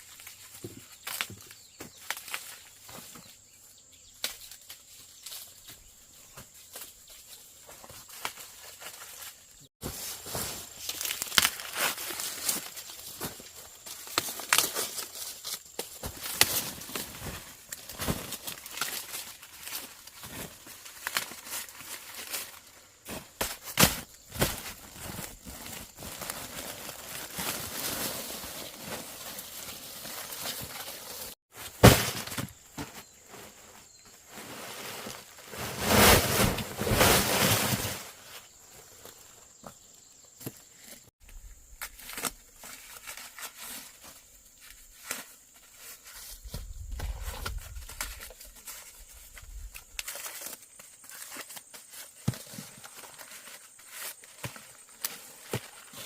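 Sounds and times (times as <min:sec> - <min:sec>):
dry corn leaves rustling: 0:00.0 - 0:39.6, 0:40.8 - 0:56.0.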